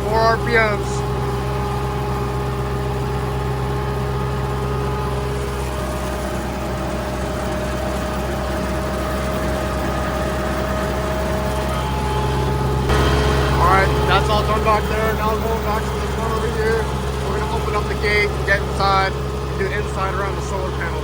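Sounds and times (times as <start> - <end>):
mower cutting grass: 0.0 - 21.0
steady whine: 0.0 - 21.0
tractor engine at high revs: 0.0 - 21.0.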